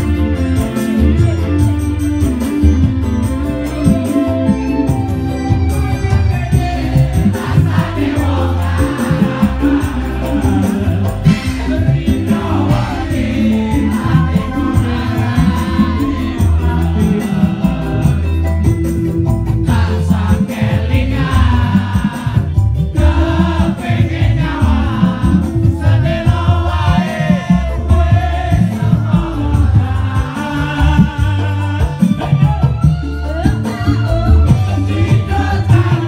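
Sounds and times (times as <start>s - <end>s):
crowd singing along: 0.0s - 36.0s
live band music over pa: 0.0s - 36.0s.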